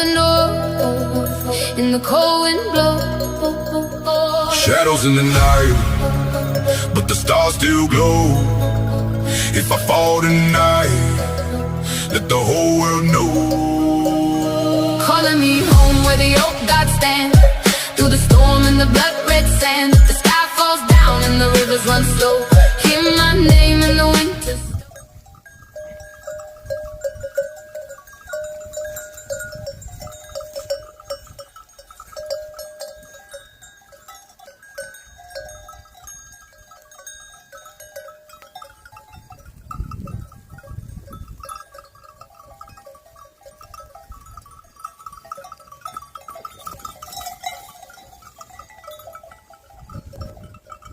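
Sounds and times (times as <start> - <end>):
sheep bells clinking: 0.0 - 50.9.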